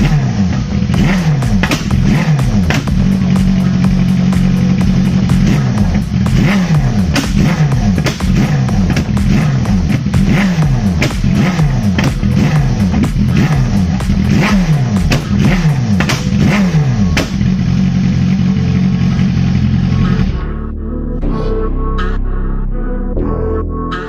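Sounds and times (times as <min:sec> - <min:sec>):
motorcycle engine revving: 0:00.0 - 0:20.7.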